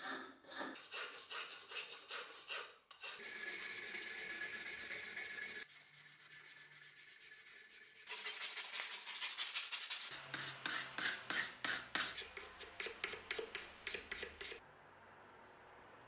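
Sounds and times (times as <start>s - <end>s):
rasp scraping wood: 0.0s - 14.6s
sandpaper rubbing wood: 0.8s - 14.6s.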